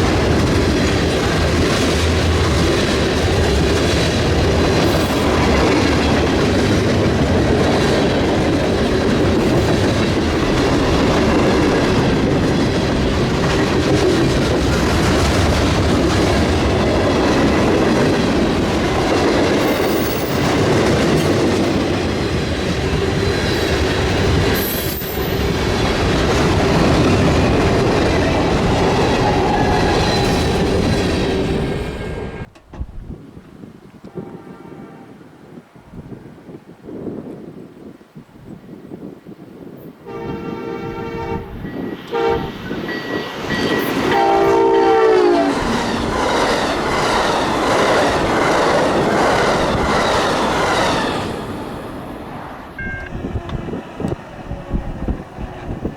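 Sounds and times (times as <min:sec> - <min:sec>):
freight train cars rolling past: 0:00.0 - 0:33.0, 0:40.0 - 0:55.9.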